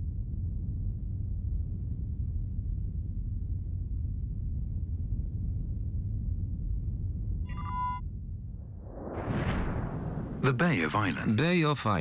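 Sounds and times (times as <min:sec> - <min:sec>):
deep low rumbling drone: 0:00.0 - 0:11.4.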